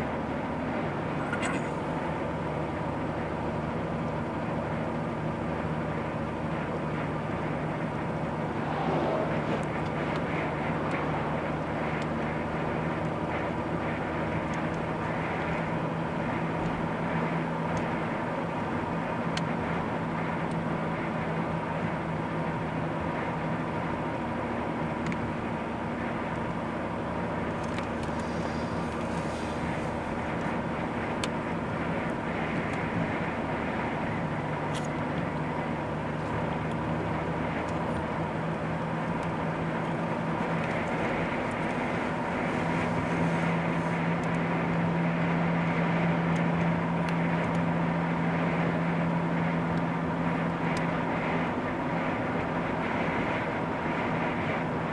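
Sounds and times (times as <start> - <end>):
car engine hum: 0.0 - 54.9
road and tyre noise: 0.0 - 54.9.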